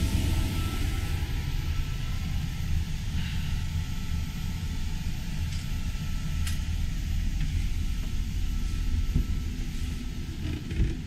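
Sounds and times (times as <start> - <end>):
boat machinery rumble and hum: 0.0 - 11.0.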